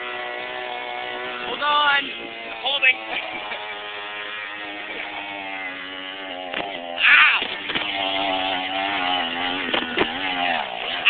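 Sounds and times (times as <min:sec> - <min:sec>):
mini bike engine buzzing: 0:00.0 - 0:11.0.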